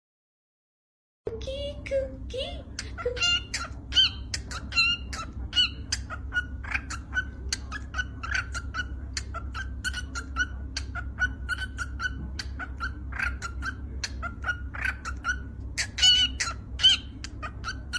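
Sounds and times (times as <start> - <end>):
cockatiel chirping and chattering: 2.6 - 17.9.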